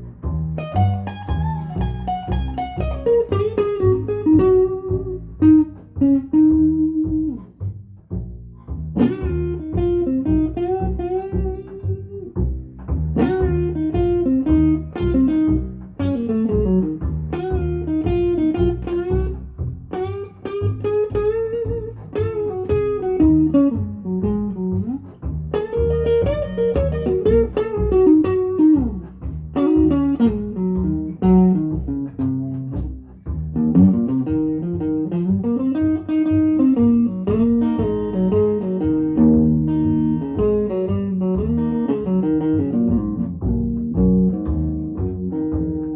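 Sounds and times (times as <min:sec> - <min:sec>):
blues guitar notes: 0:00.0 - 0:45.9
low bass line: 0:00.0 - 0:45.9.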